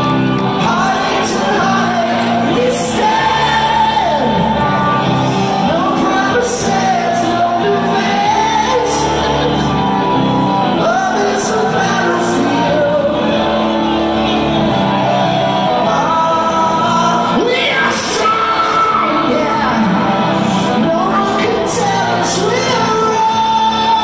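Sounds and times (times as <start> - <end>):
live rock band playing: 0.0 - 24.0
man singing: 0.5 - 9.9, 10.6 - 13.7, 15.6 - 24.0.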